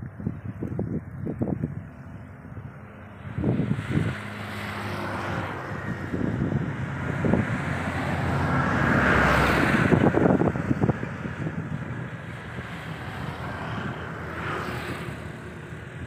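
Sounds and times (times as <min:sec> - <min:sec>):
wind buffeting microphone: 0:00.0 - 0:16.0
vehicle passing: 0:00.6 - 0:16.0.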